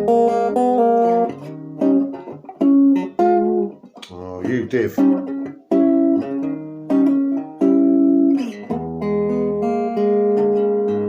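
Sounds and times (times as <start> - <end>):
electric guitar notes and chords: 0.0 - 11.0.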